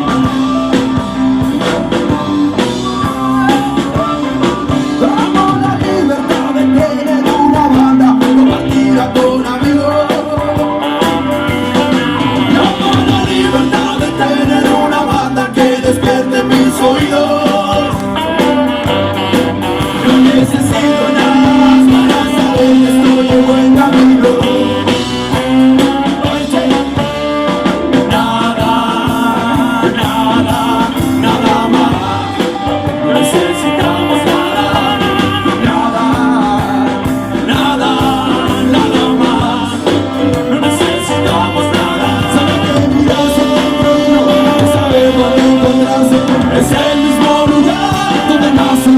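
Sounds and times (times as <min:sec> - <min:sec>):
blues band playing: 0:00.0 - 0:48.9
drums: 0:00.0 - 0:48.9
person singing: 0:00.0 - 0:48.9.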